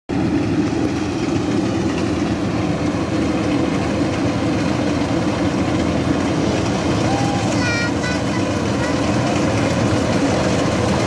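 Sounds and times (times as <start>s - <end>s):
combine harvester engine drone: 0.1s - 11.0s.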